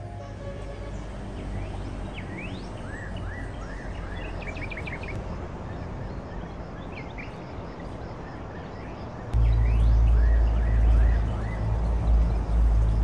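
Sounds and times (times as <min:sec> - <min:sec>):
outdoor background noise: 0:00.0 - 0:13.0
small birds chirping: 0:00.9 - 0:13.0.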